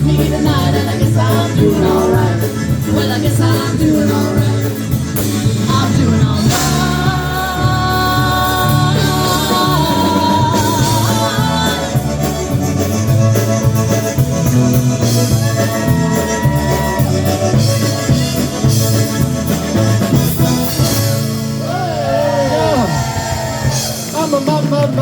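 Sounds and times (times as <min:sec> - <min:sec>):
polka band playing: 0:00.0 - 0:25.0.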